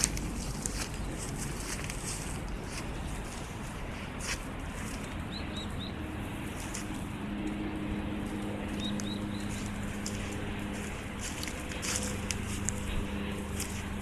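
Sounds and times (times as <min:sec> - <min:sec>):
low steady hum: 0:00.0 - 0:14.0
steady outdoor rush: 0:00.0 - 0:14.0.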